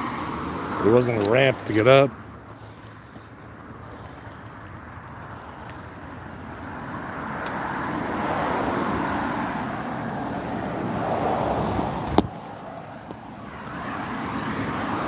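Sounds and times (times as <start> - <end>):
bicycle tyres rolling on concrete: 0.0 - 15.0.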